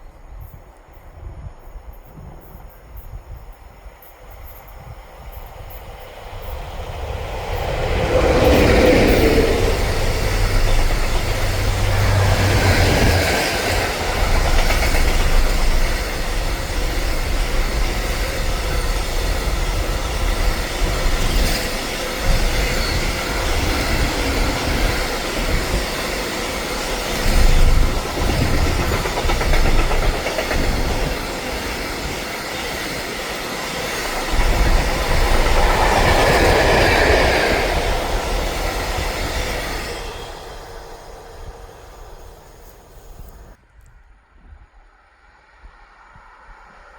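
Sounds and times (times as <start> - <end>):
train wheels clattering past: 5.4 - 43.6.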